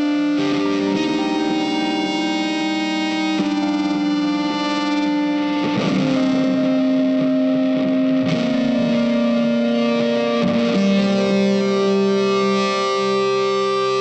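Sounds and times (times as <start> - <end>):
distorted electric guitar notes: 0.0 - 14.0.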